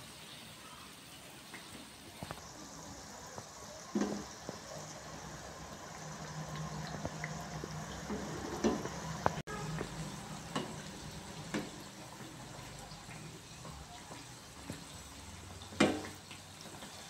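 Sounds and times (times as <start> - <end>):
deep-frying sizzle with pops: 0.0 - 17.0.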